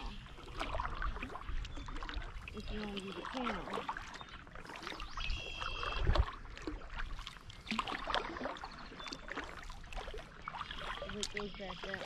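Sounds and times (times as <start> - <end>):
paddle strokes in water: 0.0 - 12.0
water dripping and splashing: 0.0 - 12.0.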